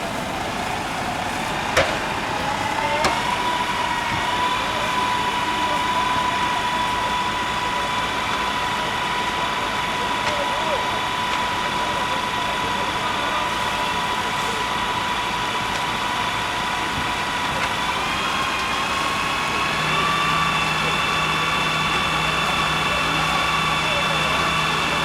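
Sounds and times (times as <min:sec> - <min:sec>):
fire engine whine: 0:00.0 - 0:25.0.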